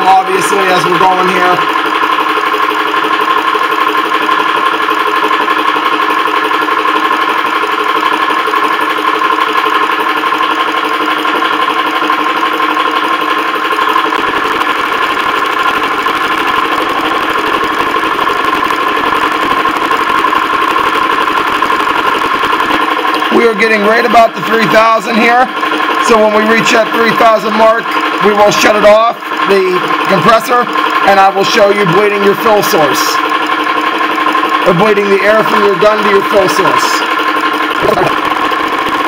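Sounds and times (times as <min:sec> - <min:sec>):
air compressor humming: 0:00.0 - 0:39.0.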